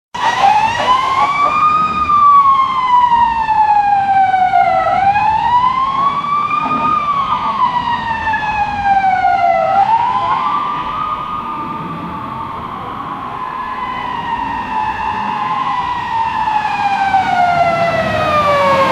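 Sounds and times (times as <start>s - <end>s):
fire truck siren wailing: 0.1s - 18.9s.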